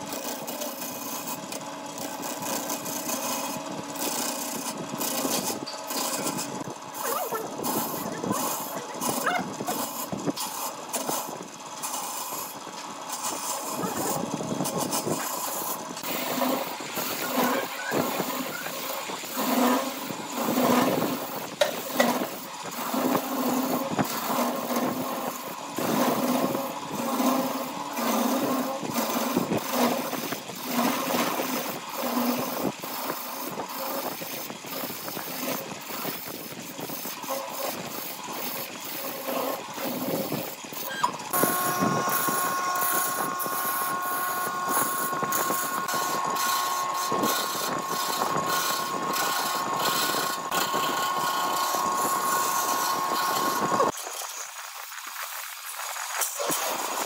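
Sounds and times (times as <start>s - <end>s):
power tool cutting wood: 0.0s - 54.0s.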